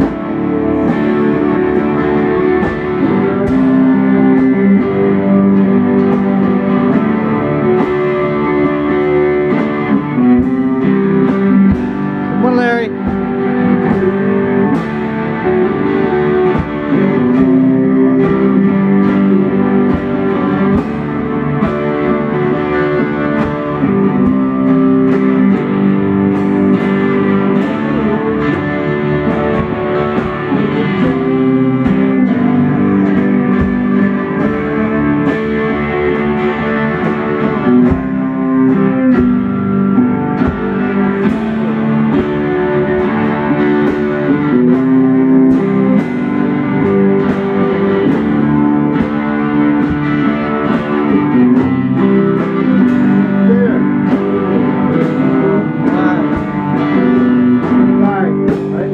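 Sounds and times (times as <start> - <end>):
drum kit beat: 0.0 - 58.9
electric guitars strumming chords: 0.0 - 58.9.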